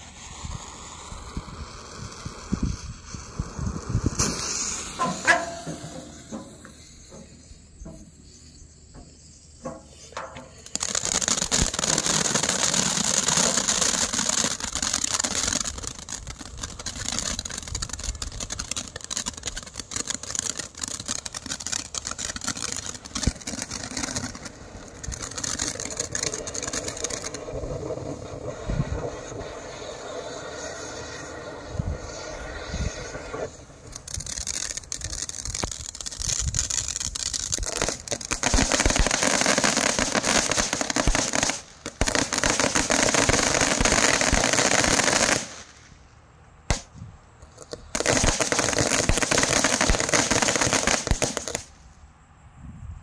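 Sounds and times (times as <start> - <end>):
fine crackles of sparks: 0.0 - 8.5, 9.6 - 46.1, 46.7 - 51.9
firework fountain spraying sparks: 0.0 - 46.1, 46.7 - 51.8.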